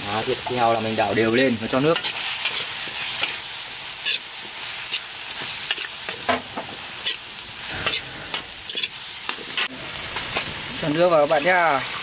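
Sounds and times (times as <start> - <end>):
aromatics sizzling in a wok: 0.0 - 12.0.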